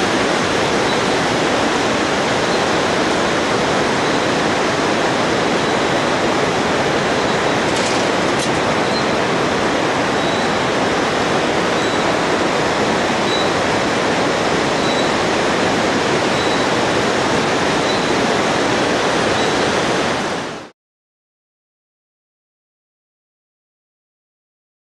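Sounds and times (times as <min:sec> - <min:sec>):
river rapids roaring: 0:00.0 - 0:20.7.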